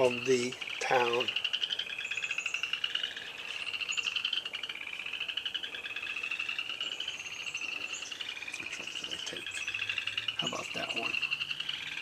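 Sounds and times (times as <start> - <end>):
frogs trilling: 0.0 - 12.0.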